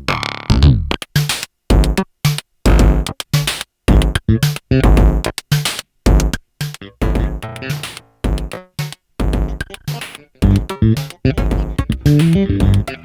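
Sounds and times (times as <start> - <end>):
drum machine electronic beat: 0.0 - 13.0.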